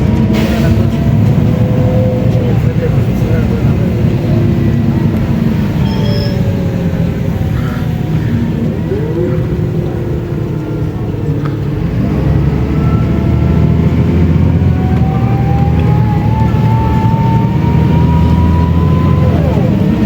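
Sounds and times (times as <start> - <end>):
bus engine humming: 0.0 - 20.0
rising whine: 0.4 - 20.0.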